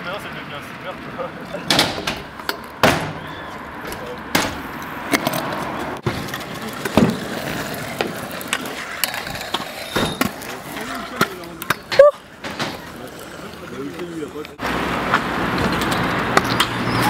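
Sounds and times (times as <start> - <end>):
scooter wheels rolling on asphalt: 0.0 - 17.0
scooter deck clacking: 1.5 - 16.9.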